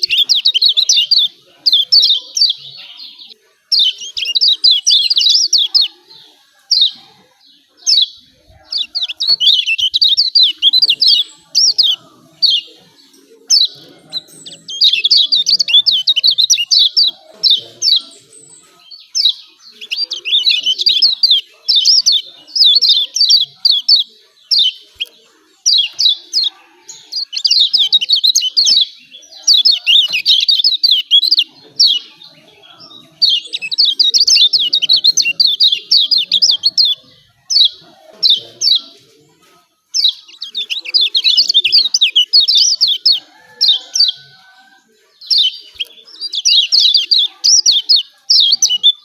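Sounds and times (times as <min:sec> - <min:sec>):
bird chirping calls: 0:00.0 - 0:49.0.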